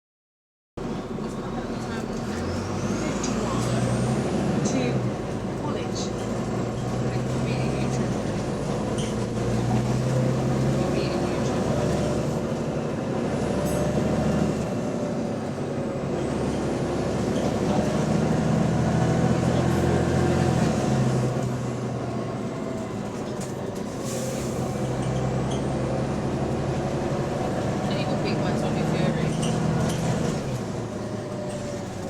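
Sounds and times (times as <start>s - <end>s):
bus engine running: 0.8s - 32.0s.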